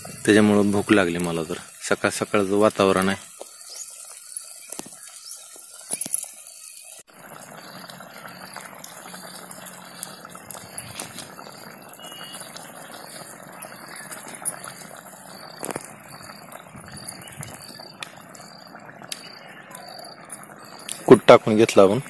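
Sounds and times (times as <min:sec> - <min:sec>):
curry bubbling in a pot: 0:00.0 - 0:22.0.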